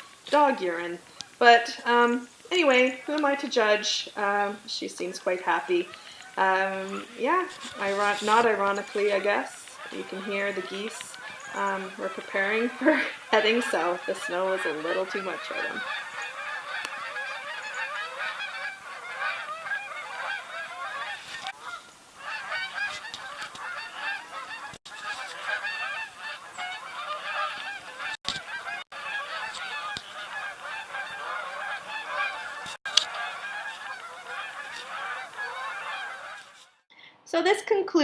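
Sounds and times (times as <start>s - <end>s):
flock of geese honking: 0.0s - 36.9s.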